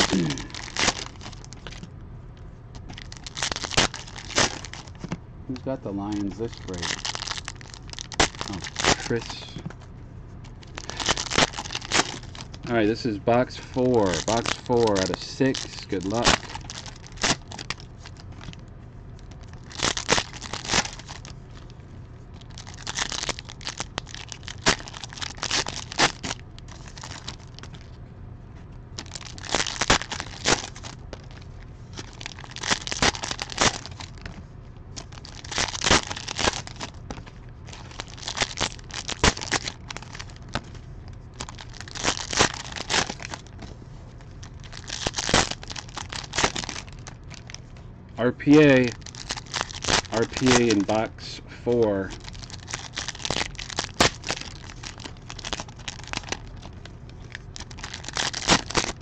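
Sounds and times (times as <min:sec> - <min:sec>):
plastic wrapping crinkling and tearing: 0:00.0 - 0:01.8, 0:02.8 - 0:09.6, 0:10.5 - 0:18.6, 0:19.2 - 0:28.0, 0:29.0 - 0:47.7, 0:48.7 - 0:51.0, 0:52.0 - 0:59.0.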